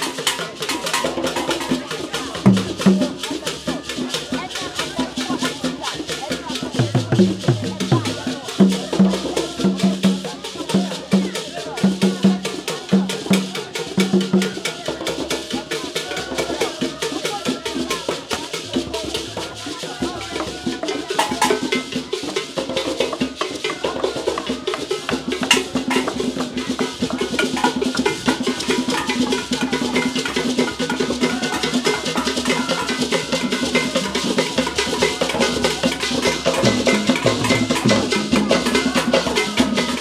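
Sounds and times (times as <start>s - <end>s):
hand drums playing fast rhythm: 0.0s - 40.0s.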